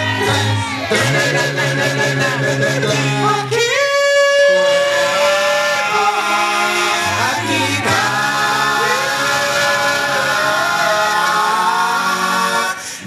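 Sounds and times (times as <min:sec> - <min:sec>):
male vocal group singing harmony: 0:00.0 - 0:13.0.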